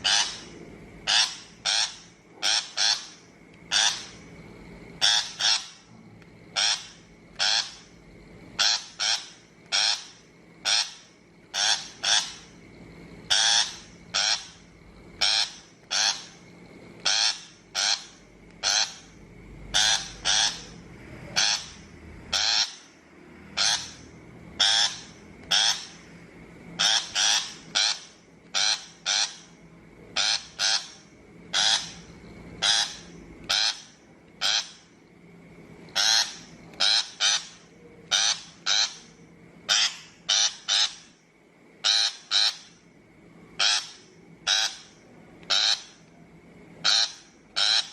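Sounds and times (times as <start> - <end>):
shrike harsh raspy calls: 0.0 - 5.9, 6.5 - 35.1, 35.8 - 41.2, 41.8 - 42.9, 43.6 - 46.0, 46.7 - 47.9.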